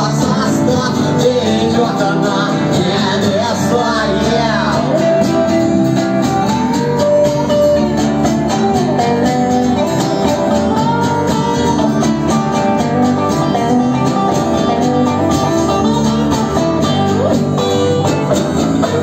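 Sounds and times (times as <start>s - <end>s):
acoustic guitar strumming: 0.0s - 19.0s
electric guitar lines: 0.0s - 19.0s.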